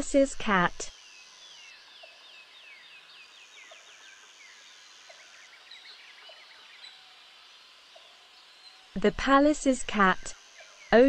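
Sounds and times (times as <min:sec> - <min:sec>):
birds singing faintly: 0:00.0 - 0:11.0.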